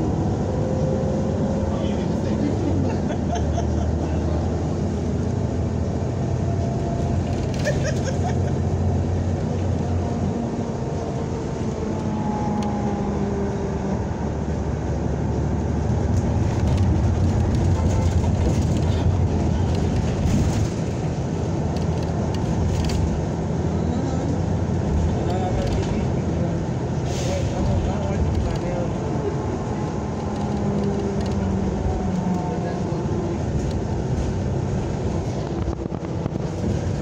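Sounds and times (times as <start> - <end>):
bus engine drone: 0.0 - 37.0
road and rattle noise: 0.0 - 37.0.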